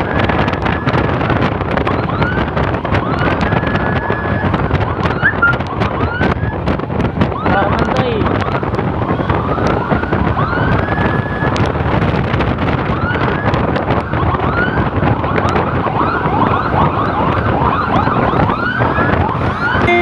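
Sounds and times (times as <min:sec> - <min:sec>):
electronic siren wailing: 0:00.0 - 0:20.0
wind and road noise: 0:00.0 - 0:20.0.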